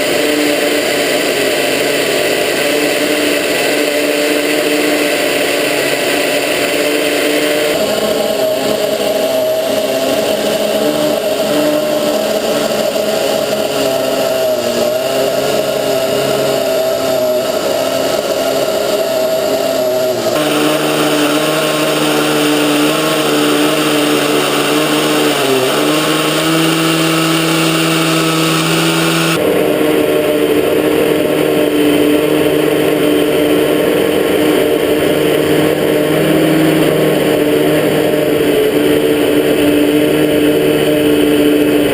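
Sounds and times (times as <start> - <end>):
chainsaw sawing wood: 0.0 - 41.9.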